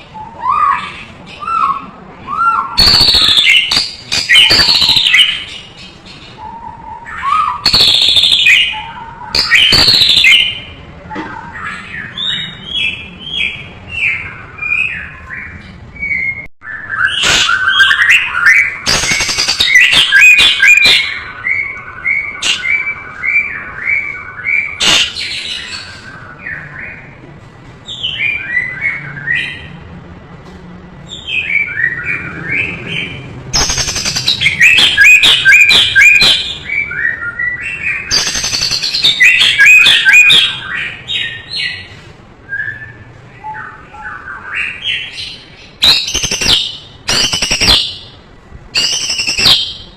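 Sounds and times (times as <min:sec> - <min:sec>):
songbird whistling and chirping: 0:00.0 - 0:27.1, 0:27.8 - 0:29.8, 0:31.1 - 0:49.9.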